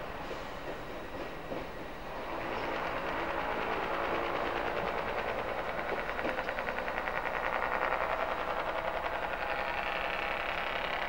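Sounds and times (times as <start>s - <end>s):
diesel train engine pulsing: 0.0s - 11.0s.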